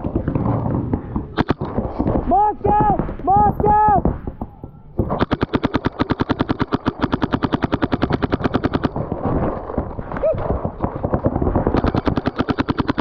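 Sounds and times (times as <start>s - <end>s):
paintball marker rapid firing: 0.0s - 13.0s.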